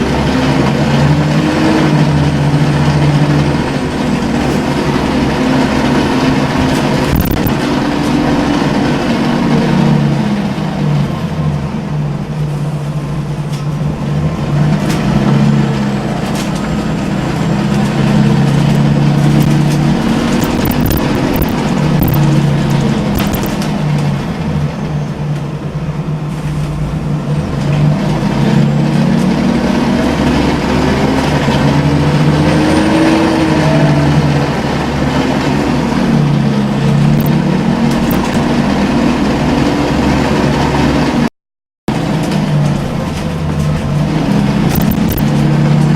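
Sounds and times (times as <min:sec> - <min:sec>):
bus engine droning: 0:00.0 - 0:41.3, 0:41.9 - 0:45.9.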